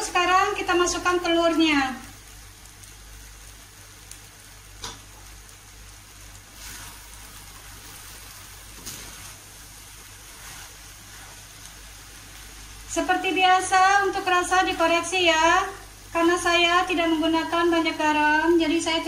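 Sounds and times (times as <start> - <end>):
noodles sizzling in a wok: 0.0 - 19.0.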